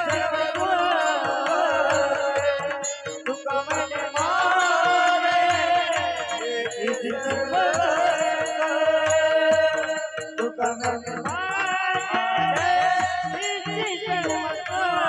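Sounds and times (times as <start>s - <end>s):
steady drum beats: 0.0s - 15.0s
woman singing devotional song: 0.0s - 15.0s.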